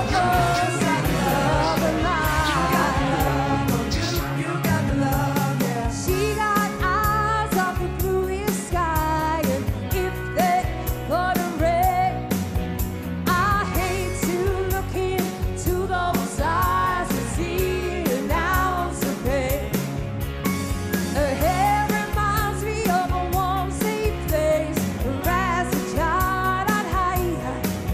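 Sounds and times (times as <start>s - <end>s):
woman singing: 0.0s - 12.3s, 13.3s - 19.8s, 21.1s - 27.9s
pop-dance backing track: 0.0s - 27.9s.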